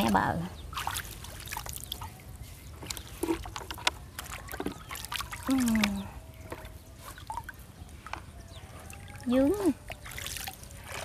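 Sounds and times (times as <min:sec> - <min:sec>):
water dripping and trickling: 0:00.0 - 0:11.0
water splashing and sloshing: 0:00.0 - 0:11.0.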